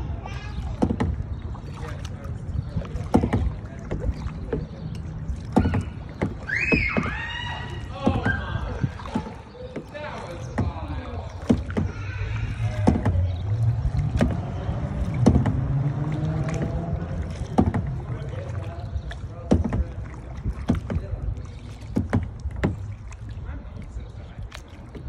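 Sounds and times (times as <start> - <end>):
paddle splashing in water: 0.0 - 25.0.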